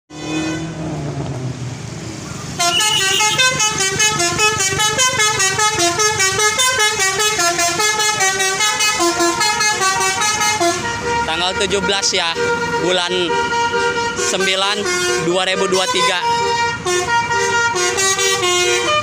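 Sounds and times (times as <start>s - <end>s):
musical bus horn melody: 0.1s - 0.9s, 2.5s - 19.0s
bus engine running: 0.1s - 19.0s.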